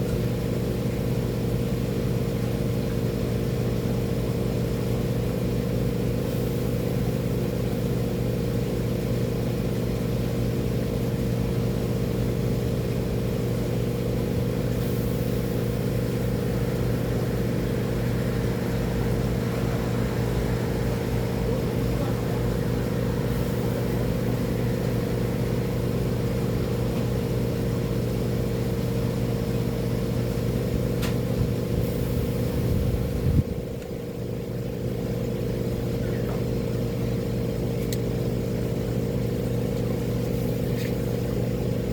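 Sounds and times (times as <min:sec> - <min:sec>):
engine droning steadily: 0:00.0 - 0:41.9.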